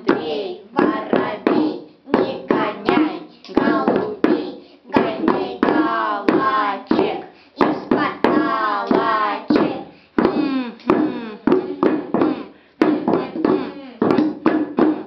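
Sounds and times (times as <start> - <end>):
child singing: 0.0 - 15.0
drums beaten with sticks: 0.0 - 15.0.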